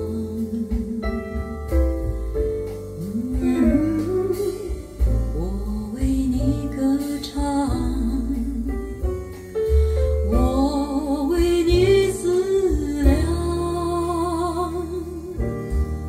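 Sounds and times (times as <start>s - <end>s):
deep bass: 0.0s - 16.0s
piano accompaniment: 0.0s - 16.0s.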